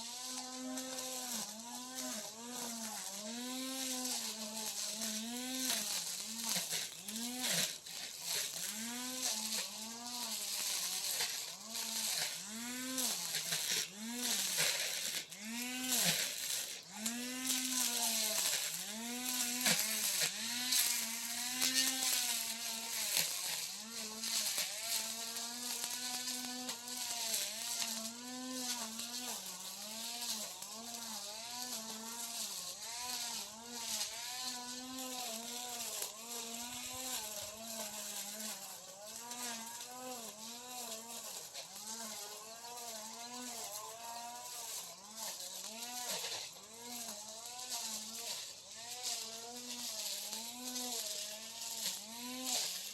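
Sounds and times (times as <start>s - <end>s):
brush cutter cutting grass: 0.0s - 52.9s.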